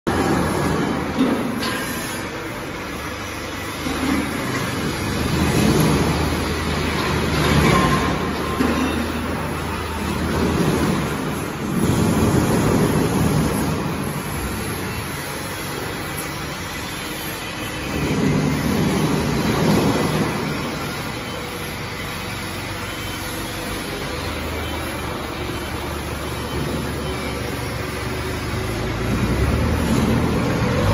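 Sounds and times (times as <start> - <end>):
forklift engine humming: 0.1 - 30.9.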